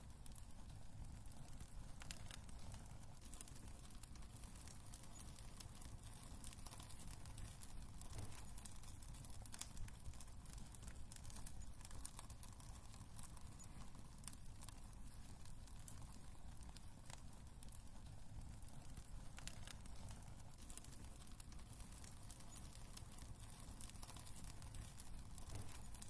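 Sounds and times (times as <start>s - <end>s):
low rumble of burning logs: 0.0s - 26.0s
wood fire crackling and popping: 0.0s - 26.0s.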